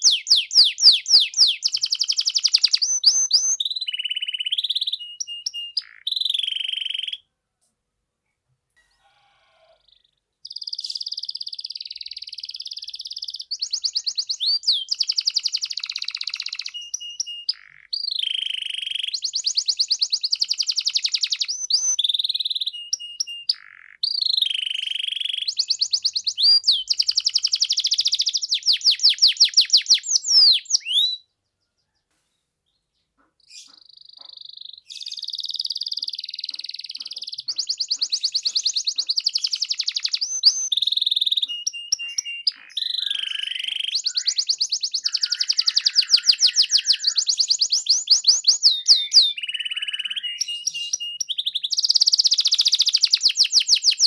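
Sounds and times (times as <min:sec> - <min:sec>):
canary singing trills: 0:00.0 - 0:07.3, 0:08.8 - 0:32.1, 0:32.7 - 0:54.0.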